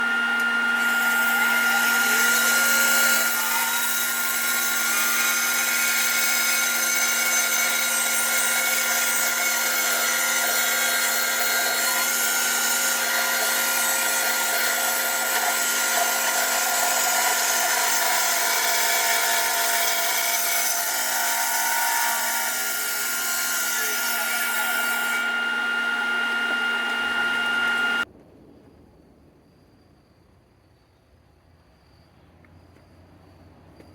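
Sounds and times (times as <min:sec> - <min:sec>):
sawmill cutting log: 0:00.0 - 0:28.0
saw high whine: 0:00.0 - 0:28.1.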